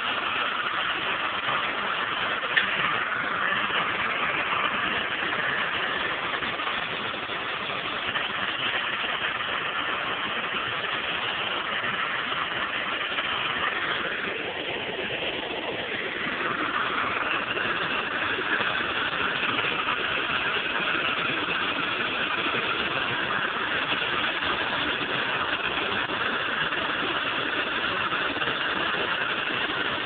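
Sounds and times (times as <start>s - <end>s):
gas torch hissing: 0.0s - 30.0s.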